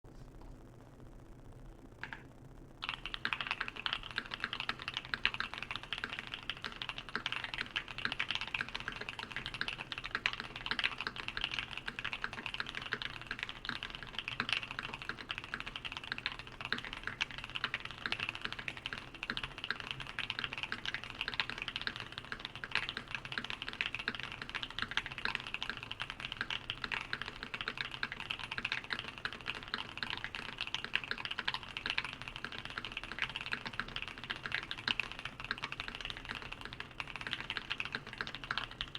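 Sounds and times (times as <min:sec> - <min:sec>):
fast mechanical keyboard typing: 0:02.8 - 0:38.9.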